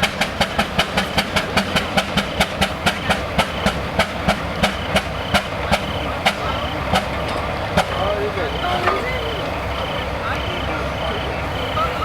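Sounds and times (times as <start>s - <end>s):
steam engine exhaust chuffing: 0.0s - 12.0s.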